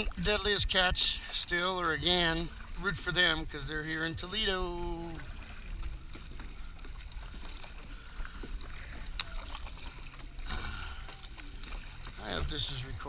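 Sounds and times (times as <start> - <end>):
kayak paddle strokes: 0.0 - 13.0
water splashing against boat: 0.0 - 13.0.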